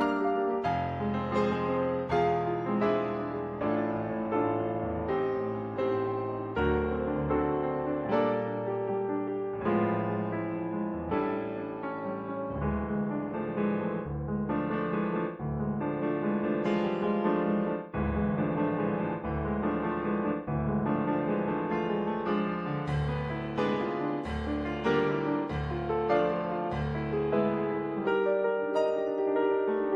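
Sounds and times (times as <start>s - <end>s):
solo piano music: 0.0s - 29.9s.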